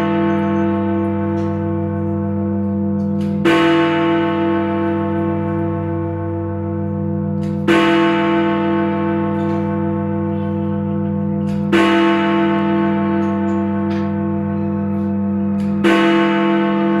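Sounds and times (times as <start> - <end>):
large bell striking: 0.0 - 17.0.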